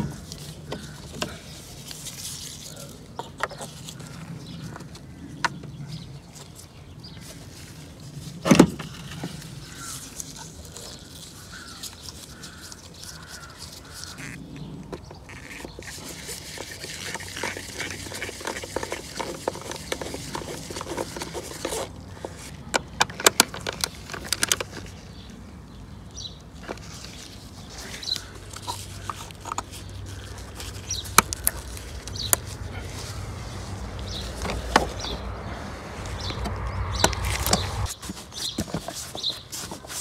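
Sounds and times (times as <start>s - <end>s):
hands rustling in engine bay: 0.0s - 25.4s, 26.4s - 40.0s.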